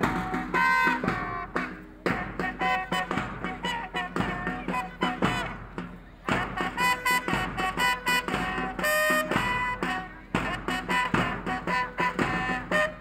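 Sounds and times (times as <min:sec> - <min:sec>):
upbeat music with regular beat: 0:00.0 - 0:13.0.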